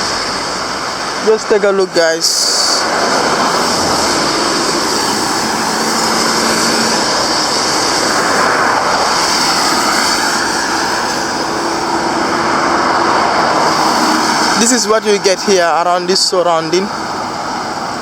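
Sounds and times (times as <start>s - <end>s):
faint engine hum: 0.0s - 18.0s
traffic roar of engines and tyres: 0.0s - 18.0s.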